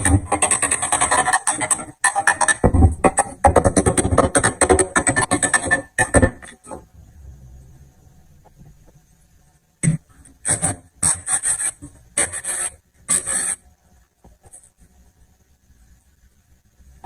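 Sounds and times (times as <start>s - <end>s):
faint scattered sounds: 0.0s - 17.0s.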